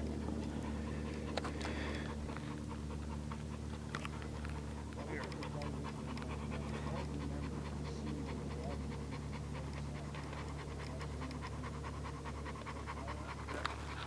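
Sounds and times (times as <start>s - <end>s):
small dog panting: 0.0s - 14.0s
steady low hum: 0.0s - 14.0s.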